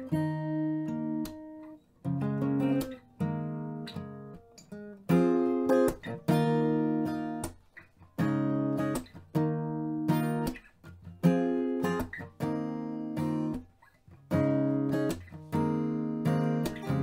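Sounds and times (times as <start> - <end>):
acoustic guitar strumming chords: 0.0 - 7.6, 8.2 - 10.6, 11.2 - 17.0.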